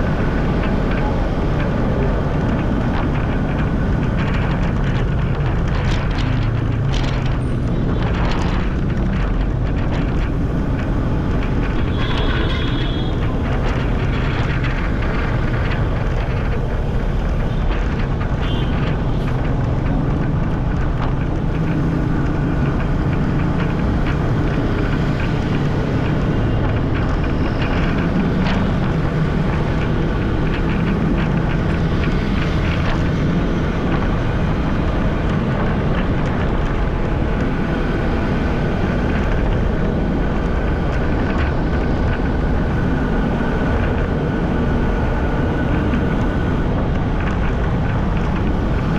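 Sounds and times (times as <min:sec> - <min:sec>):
wind noise on microphone: 0:00.0 - 0:48.9.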